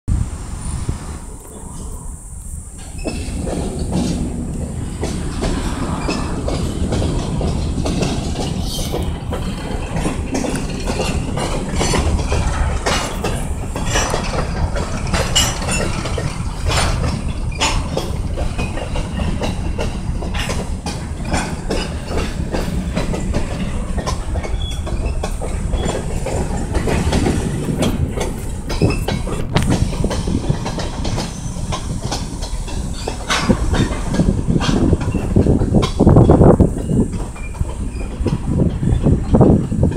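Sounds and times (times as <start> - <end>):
train wheels rumbling on rails: 0.1 - 39.9
wheels clacking over track: 2.6 - 39.9.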